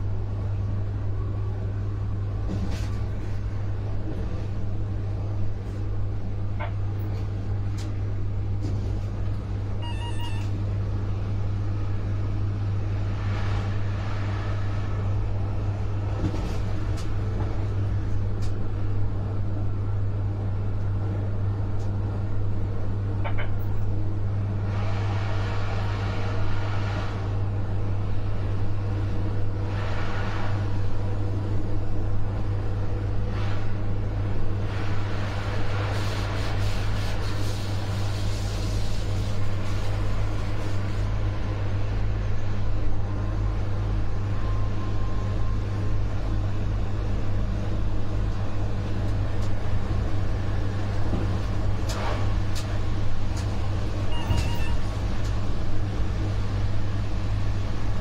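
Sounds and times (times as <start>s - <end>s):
electric locomotive hum: 0.0s - 58.0s.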